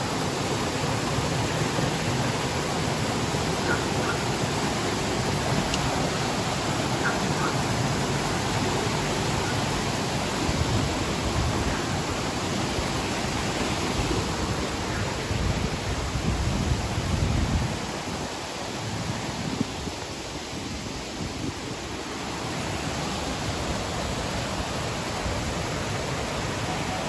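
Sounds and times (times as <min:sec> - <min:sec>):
waterfall rushing over rocks: 0:00.0 - 0:27.0.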